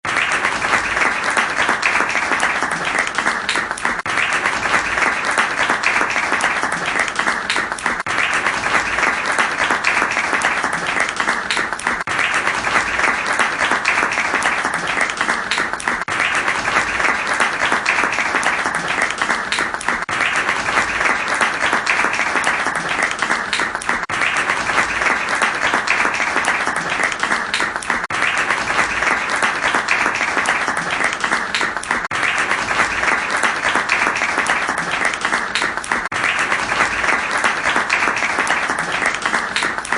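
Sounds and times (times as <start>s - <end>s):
crowd applause: 0.0s - 39.9s.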